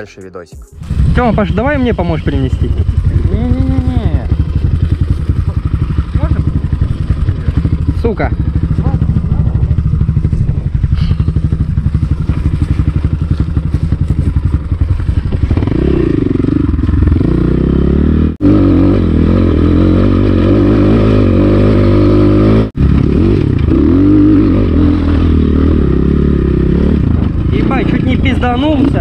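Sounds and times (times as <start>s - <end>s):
dirt-bike engine revving: 0.8s - 29.0s.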